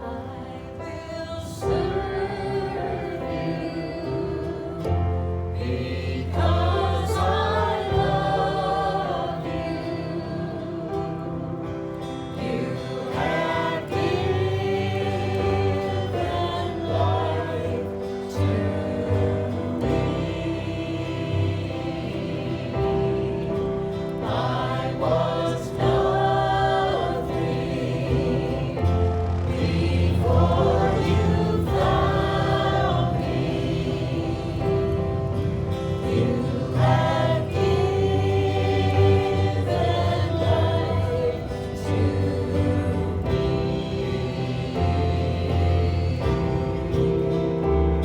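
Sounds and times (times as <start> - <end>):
group singing a gospel hymn: 0.0 - 48.0
instrumental held chords: 0.0 - 48.0.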